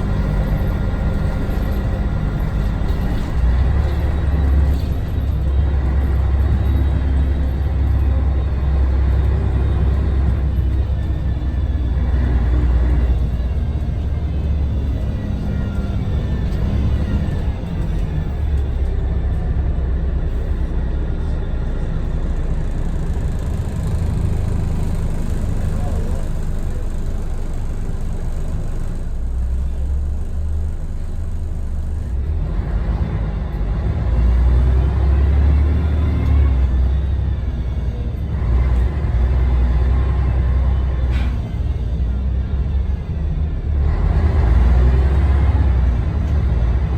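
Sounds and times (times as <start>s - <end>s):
bus diesel engine droning: 0.0s - 46.9s.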